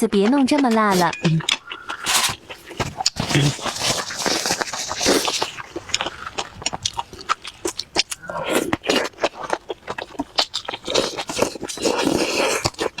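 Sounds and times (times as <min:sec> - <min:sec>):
wet chewing: 0:00.1 - 0:13.0.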